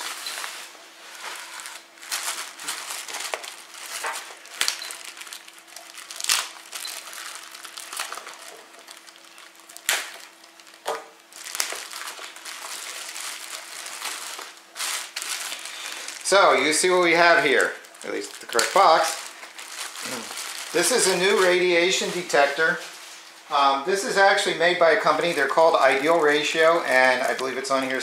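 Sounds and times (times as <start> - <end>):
plastic bag crinkling: 0.0 - 23.3, 24.0 - 28.0.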